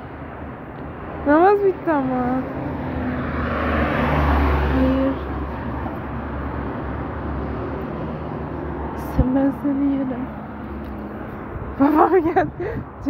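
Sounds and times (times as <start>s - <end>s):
car passing: 0.0s - 13.0s
traffic hum: 0.0s - 13.0s.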